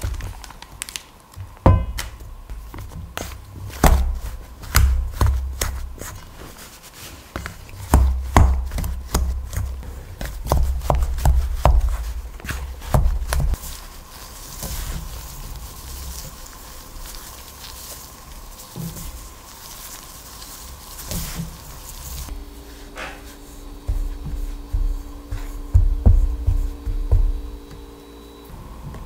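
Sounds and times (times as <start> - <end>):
hand rubbing butter into flour: 2.4 - 27.9.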